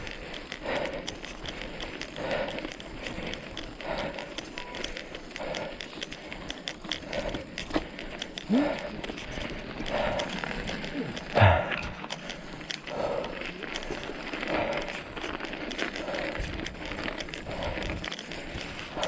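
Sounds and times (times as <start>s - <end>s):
footsteps on a trail: 0.0s - 19.0s
heavy breathing: 0.0s - 19.0s.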